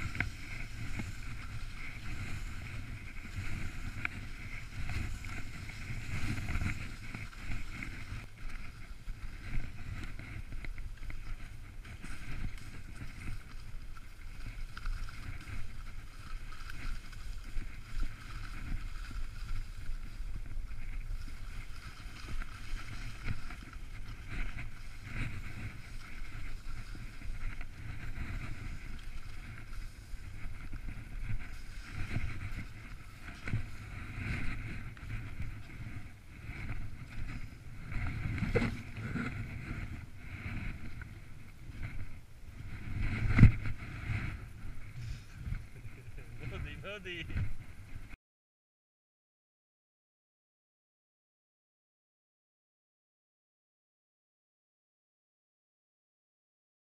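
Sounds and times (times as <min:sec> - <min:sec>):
skis sliding over snow: 0:00.0 - 0:48.2
wind rumbling on microphone: 0:00.0 - 0:48.2.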